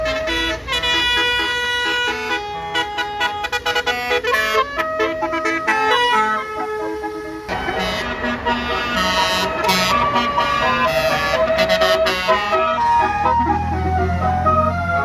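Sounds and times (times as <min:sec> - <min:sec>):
multi-tone bus horn tune: 0:00.0 - 0:15.0.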